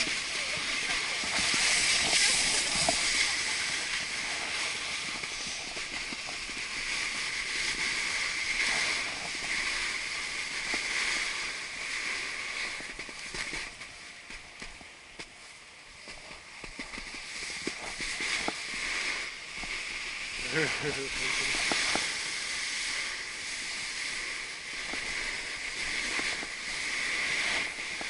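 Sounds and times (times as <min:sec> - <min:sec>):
snowboard scraping over snow: 0:00.0 - 0:28.0.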